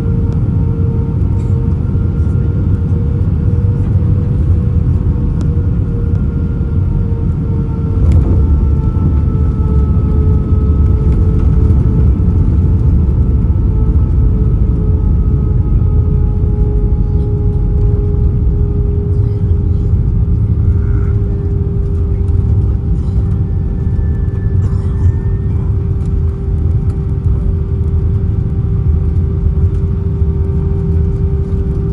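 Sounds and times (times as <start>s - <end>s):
aircraft cabin rumble: 0.0s - 31.9s.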